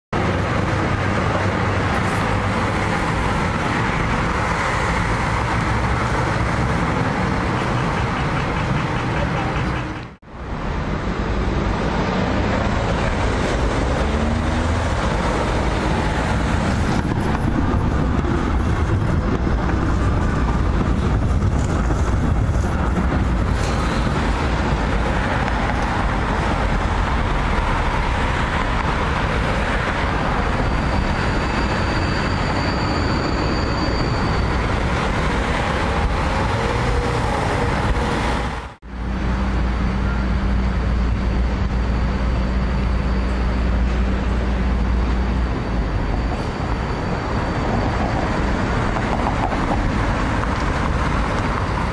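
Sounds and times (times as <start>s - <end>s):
road traffic: 0.1s - 51.9s
tram wheels on rails: 0.2s - 51.9s.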